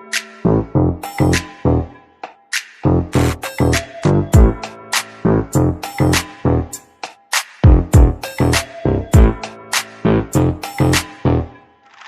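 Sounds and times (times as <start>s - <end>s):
drum machine kick beat: 1.0s - 11.4s.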